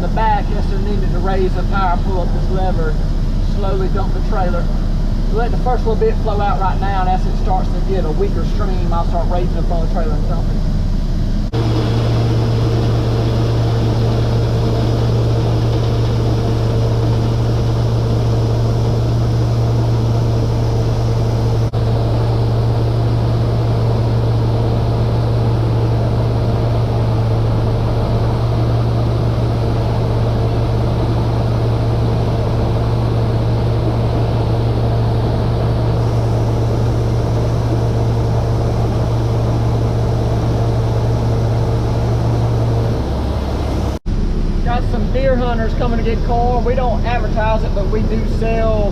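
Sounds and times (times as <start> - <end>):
vehicle engine humming: 0.0 - 48.9.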